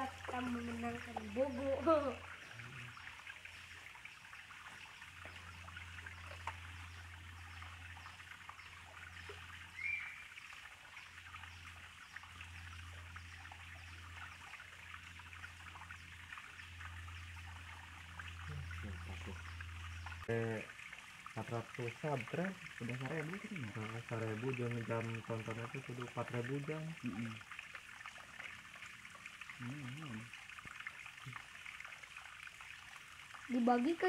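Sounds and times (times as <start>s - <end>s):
stream water trickling over rocks: 0.0s - 34.0s.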